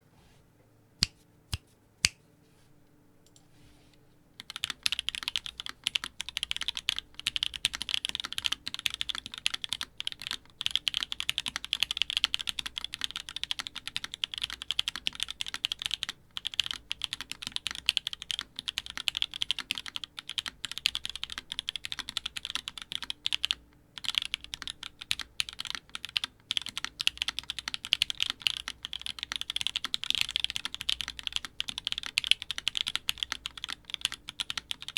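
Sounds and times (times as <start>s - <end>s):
mechanical keyboard typing: 4.4s - 34.9s.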